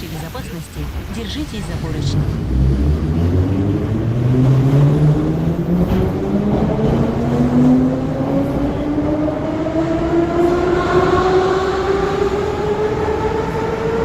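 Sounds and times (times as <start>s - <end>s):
train running gear rumble: 0.8s - 14.0s.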